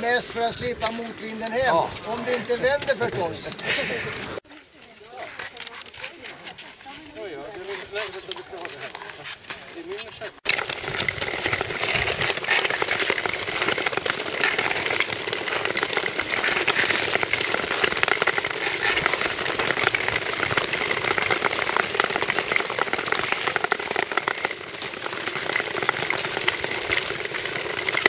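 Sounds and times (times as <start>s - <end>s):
skates scraping over ice: 0.0s - 28.0s
pole tips ticking on ice: 4.8s - 28.0s.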